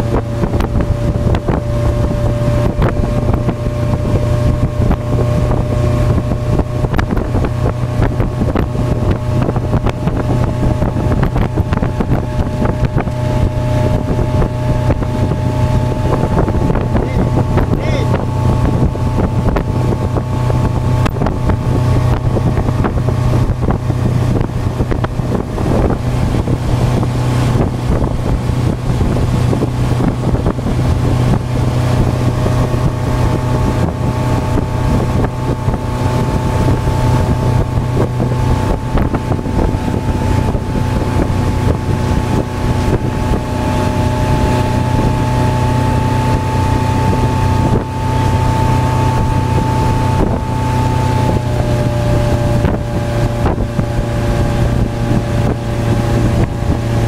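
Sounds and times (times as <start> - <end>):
motorboat engine droning: 0.0 - 57.0
wind buffeting microphone: 0.0 - 57.0.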